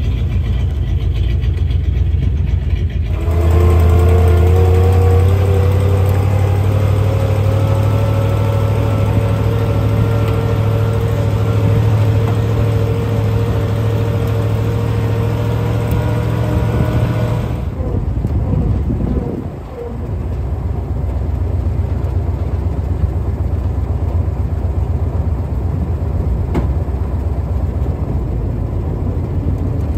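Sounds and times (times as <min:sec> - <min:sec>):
rising engine whine: 0:00.0 - 0:29.9
truck engine running: 0:00.0 - 0:29.9.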